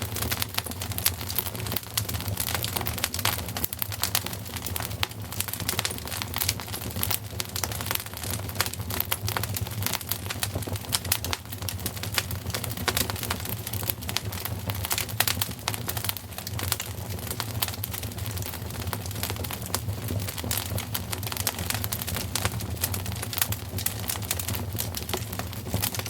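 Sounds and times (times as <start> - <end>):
low fire rumble: 0.0 - 26.0
wood fire crackling: 0.0 - 26.0.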